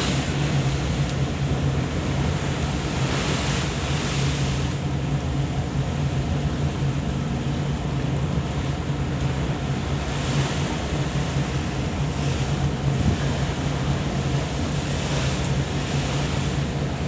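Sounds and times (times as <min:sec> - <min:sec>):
rushing sea water: 0:00.0 - 0:17.0
ship engine humming: 0:00.0 - 0:17.0
wind: 0:00.0 - 0:17.0.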